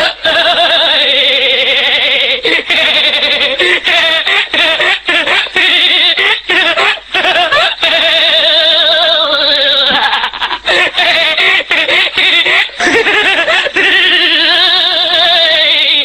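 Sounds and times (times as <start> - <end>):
person laughing hard: 0.0 - 16.0.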